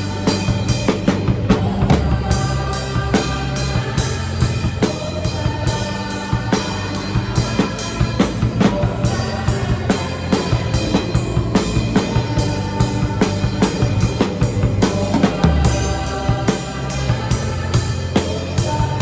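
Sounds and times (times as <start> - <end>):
backing track bass and keyboard: 0.0 - 19.0
drum kit rock groove: 0.0 - 19.0.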